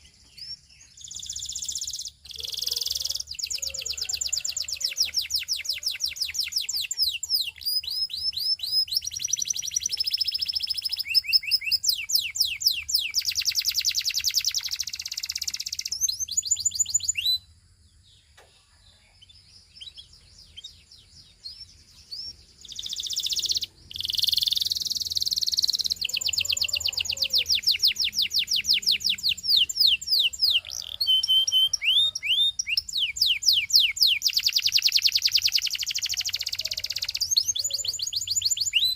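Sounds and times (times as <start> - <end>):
canary singing in fast trills: 0.0 - 18.1, 19.0 - 38.9.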